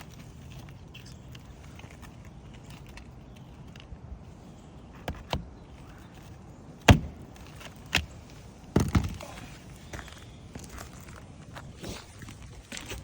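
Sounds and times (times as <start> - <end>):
footsteps on a shingle roof: 0.0 - 13.0.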